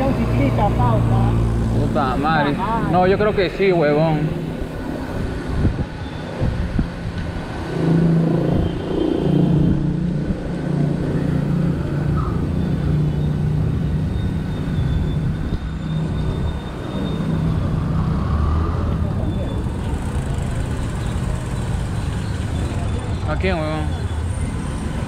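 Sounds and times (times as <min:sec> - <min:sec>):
rumbling road noise: 0:00.0 - 0:25.0.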